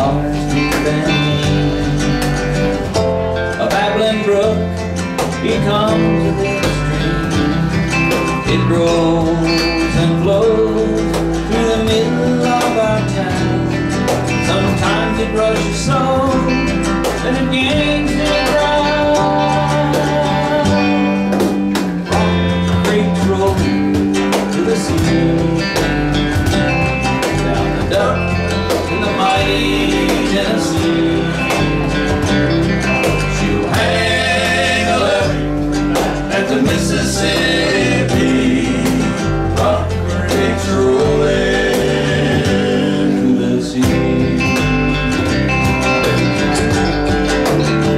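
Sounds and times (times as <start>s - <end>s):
man singing: 0.0s - 2.3s, 3.5s - 21.3s, 22.0s - 25.8s, 27.1s - 47.9s
electric bass: 0.0s - 47.9s
electric guitar: 0.0s - 47.9s
strummed acoustic guitar: 0.0s - 47.9s.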